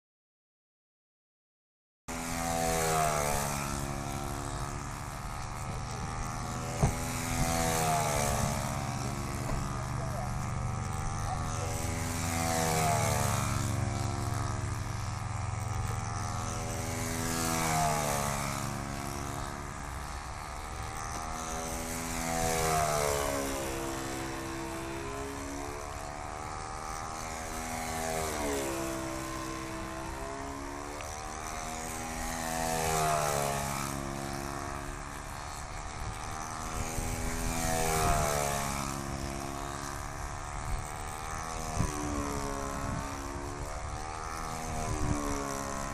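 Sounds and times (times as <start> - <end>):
model airplane engine passing by: 2.1 - 45.9.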